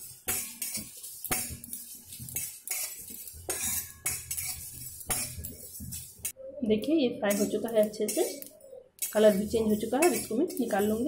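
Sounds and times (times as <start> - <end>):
metal spatula scraping metal pan: 0.0 - 6.4, 7.3 - 11.0
spices frying: 0.0 - 6.4, 7.3 - 11.0.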